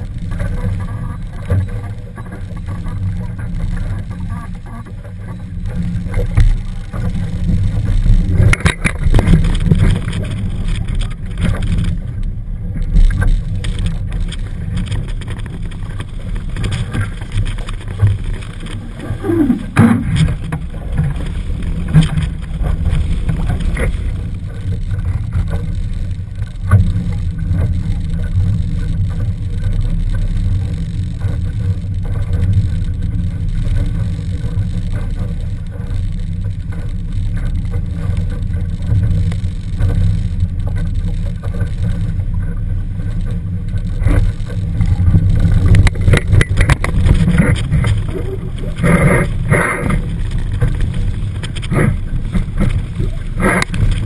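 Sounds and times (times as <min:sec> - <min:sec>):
water slapping against hull: 0:00.0 - 0:54.0
wind rumble on microphone: 0:00.0 - 0:54.0.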